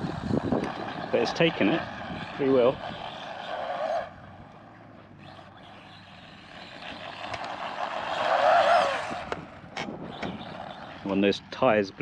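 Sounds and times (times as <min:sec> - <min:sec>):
rc truck motor whining: 0:00.0 - 0:11.6.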